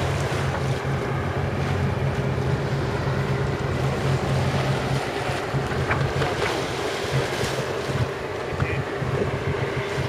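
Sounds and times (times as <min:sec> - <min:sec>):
sea water rushing: 0:00.0 - 0:10.0
wind rumbling on microphone: 0:00.0 - 0:10.0.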